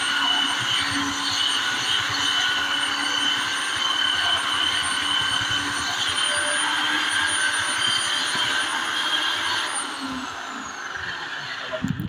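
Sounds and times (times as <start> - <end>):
belt sander whining: 0.0 - 12.0.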